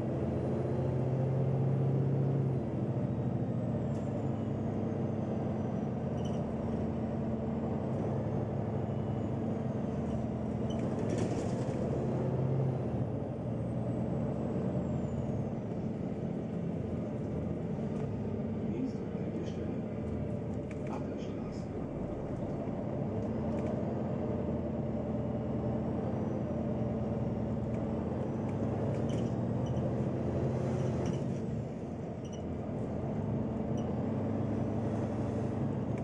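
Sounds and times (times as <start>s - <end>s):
bus engine drone: 0.0s - 36.0s
road noise: 0.0s - 36.0s.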